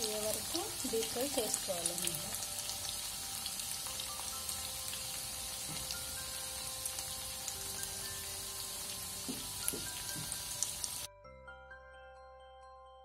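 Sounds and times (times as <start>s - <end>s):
food sizzling in hot oil: 0.0s - 11.1s
faint background music: 0.0s - 11.7s.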